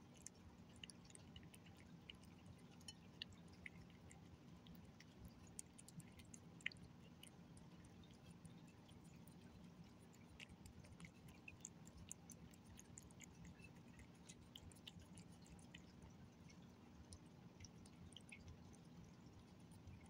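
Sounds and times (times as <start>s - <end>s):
cat licking and chewing food: 0.0s - 20.0s
low steady hum: 0.0s - 20.0s.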